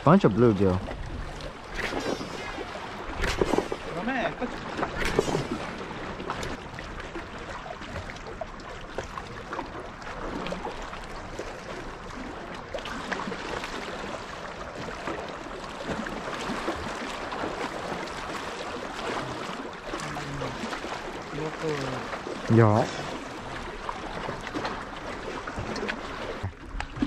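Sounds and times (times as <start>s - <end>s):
waves splashing against rocks: 0.1s - 27.0s.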